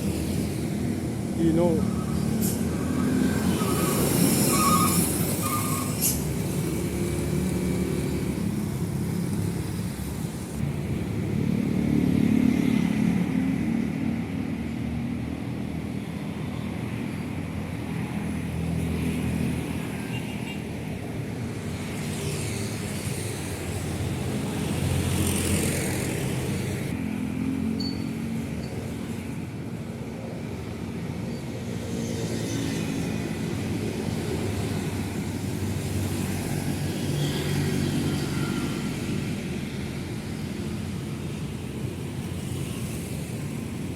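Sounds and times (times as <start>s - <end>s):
trucks and buses passing: 0.0s - 43.9s.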